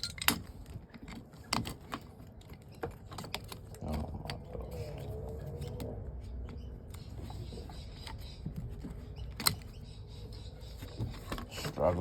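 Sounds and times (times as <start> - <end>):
small clicks and scrapes: 0.0 - 9.8.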